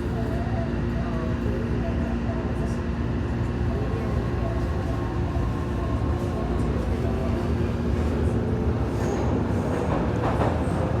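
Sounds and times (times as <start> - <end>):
train rumbling and whining: 0.0 - 11.0.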